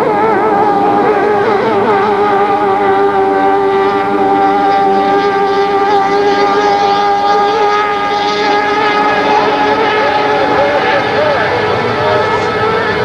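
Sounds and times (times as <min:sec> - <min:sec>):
racing outboard engine whine: 0:00.0 - 0:13.0.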